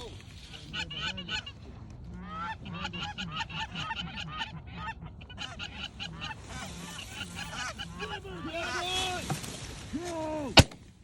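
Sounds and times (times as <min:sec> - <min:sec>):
geese honking: 0:00.0 - 0:09.8.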